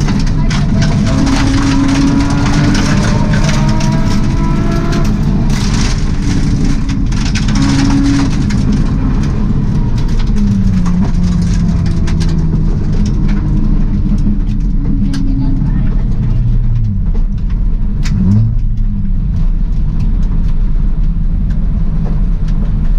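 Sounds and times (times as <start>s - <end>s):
rally car engine revving: 0.0s - 22.9s
tyres rumbling on gravel: 0.0s - 22.9s.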